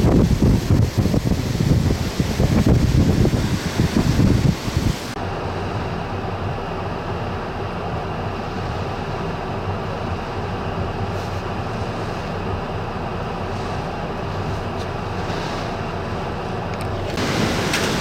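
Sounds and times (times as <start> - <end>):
strong wind rumble: 0.0 - 18.0.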